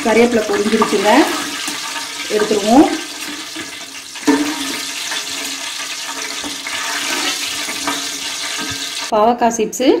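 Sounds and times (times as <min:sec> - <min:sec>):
hot oil sizzling: 0:00.0 - 0:09.2.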